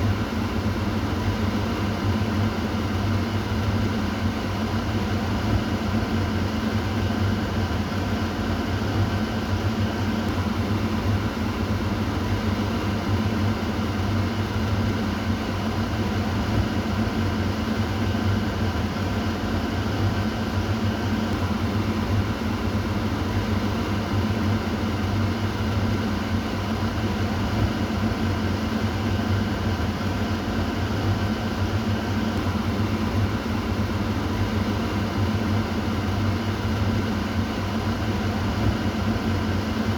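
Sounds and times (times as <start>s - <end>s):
exhaust fan rushing air: 0.0s - 39.9s.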